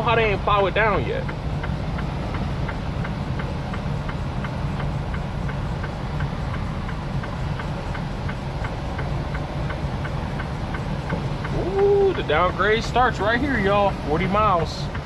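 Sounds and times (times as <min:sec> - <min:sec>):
tire chains ticking: 0:00.0 - 0:15.0
truck engine and road rumble: 0:00.0 - 0:15.0.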